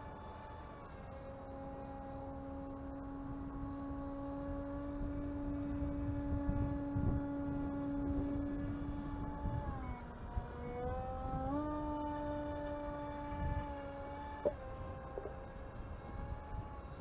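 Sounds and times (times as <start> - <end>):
model plane motor humming: 0.0 - 17.0
wind rumble on microphone: 0.0 - 17.0.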